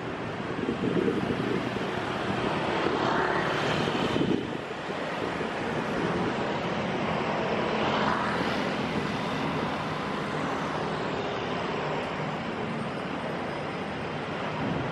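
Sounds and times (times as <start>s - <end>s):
cars and motorbikes passing: 0.0s - 14.9s.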